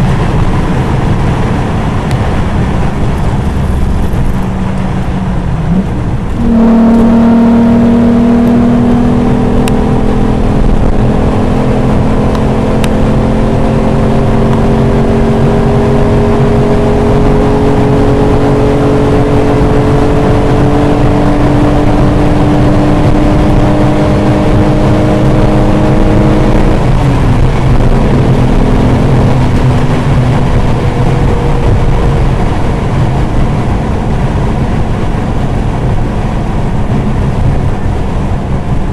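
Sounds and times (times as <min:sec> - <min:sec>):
car engine under hard throttle: 0:00.0 - 0:38.9
road and wind noise: 0:00.0 - 0:38.9.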